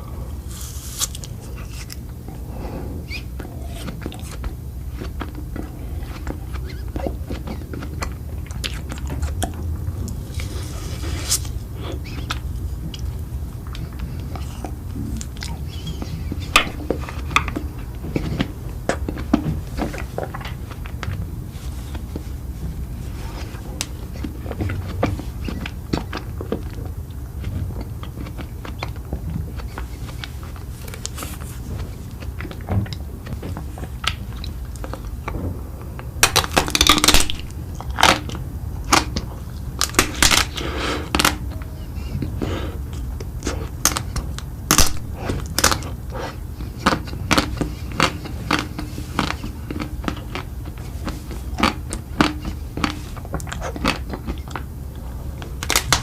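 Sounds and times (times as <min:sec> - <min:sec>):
low hum: 0:00.0 - 0:48.9
person crunching and chewing: 0:00.0 - 0:56.0.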